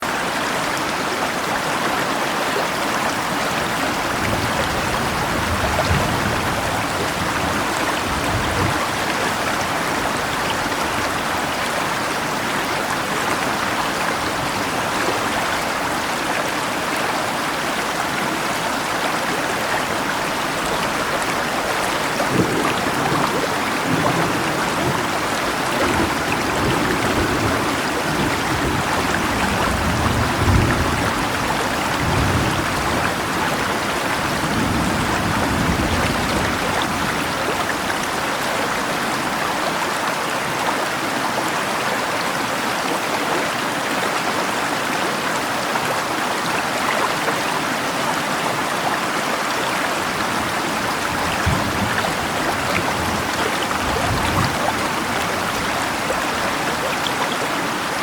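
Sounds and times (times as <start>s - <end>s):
rain falling: 0.0s - 58.0s
river flowing: 0.0s - 58.0s.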